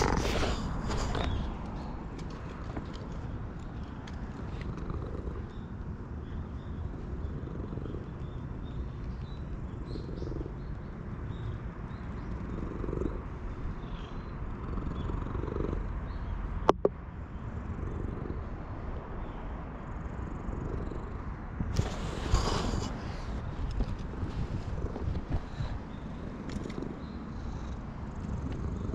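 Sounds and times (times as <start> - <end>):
cat purring: 0.0 - 5.7, 6.6 - 10.9, 12.1 - 16.3, 17.6 - 18.6, 19.2 - 28.9.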